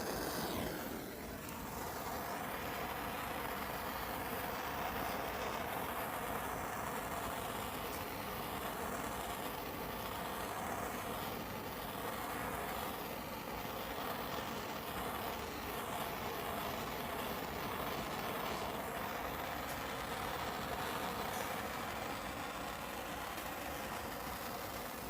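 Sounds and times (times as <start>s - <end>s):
propane torch flame rushing: 0.0s - 25.0s.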